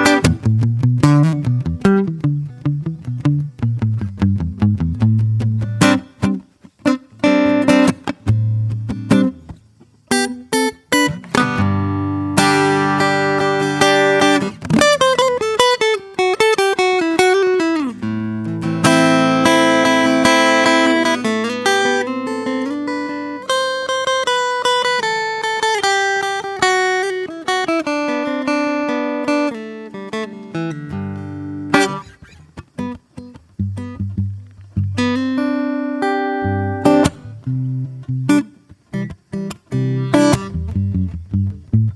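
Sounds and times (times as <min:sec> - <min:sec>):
acoustic guitar picking: 0:00.0 - 0:41.9.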